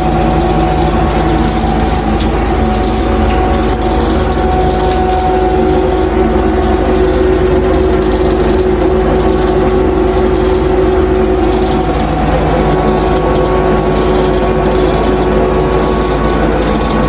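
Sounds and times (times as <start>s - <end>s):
electric motor humming: 0.0s - 17.0s.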